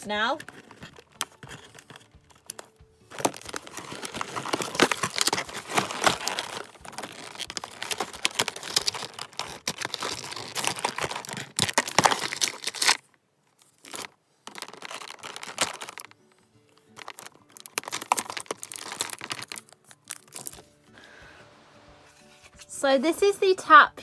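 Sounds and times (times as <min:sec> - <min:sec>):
toy packaging crinkling and tearing: 0:00.1 - 0:20.7.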